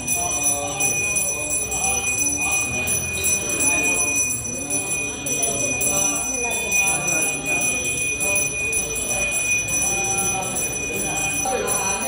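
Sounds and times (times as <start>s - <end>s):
hand bell ringing: 0.0s - 12.0s
voices chanting: 0.0s - 12.0s.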